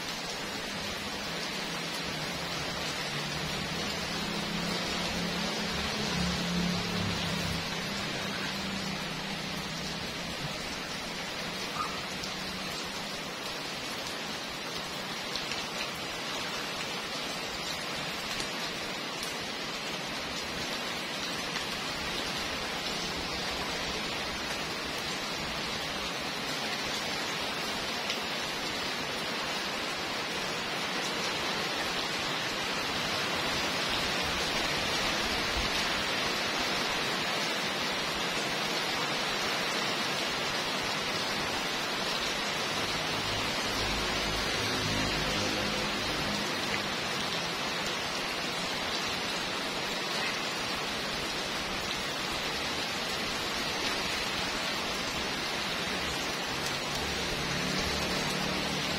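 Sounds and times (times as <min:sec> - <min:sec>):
heavy rain on paving: 0:00.0 - 0:58.9.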